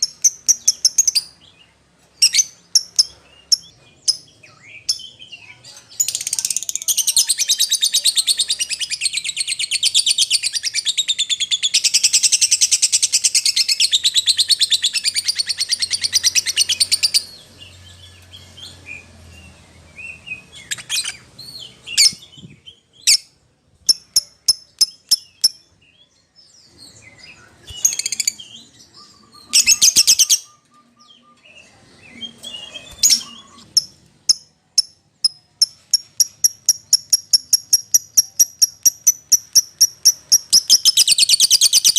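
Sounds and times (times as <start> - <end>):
lovebird trilling and chirping: 0.0 - 41.9.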